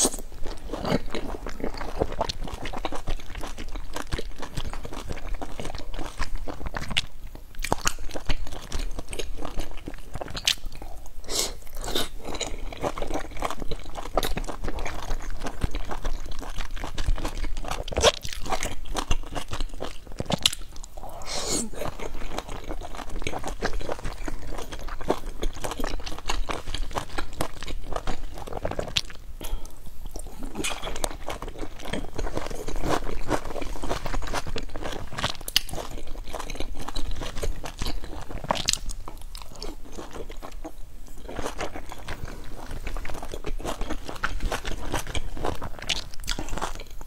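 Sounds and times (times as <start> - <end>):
person chewing and crunching: 0.0 - 47.0.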